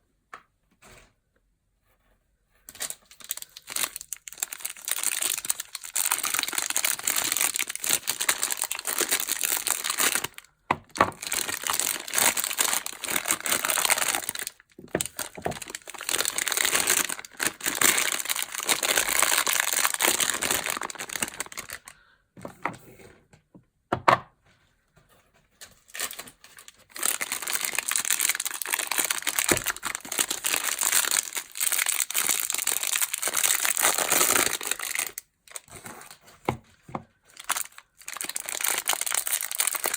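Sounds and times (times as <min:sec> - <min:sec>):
packaging crinkling and tearing: 0:02.7 - 0:21.9, 0:25.6 - 0:36.2, 0:37.3 - 0:39.9.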